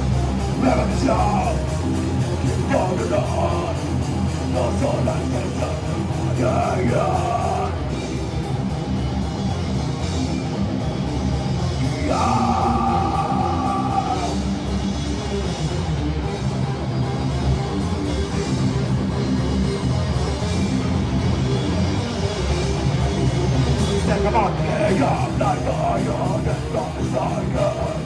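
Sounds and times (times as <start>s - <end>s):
heavy metal band playing: 0.0s - 28.0s.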